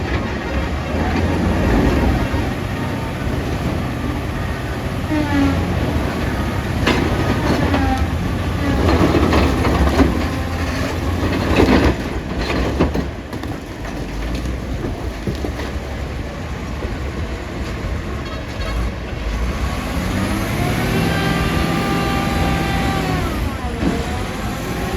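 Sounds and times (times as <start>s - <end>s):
diesel engine low rumble: 0.0s - 24.9s.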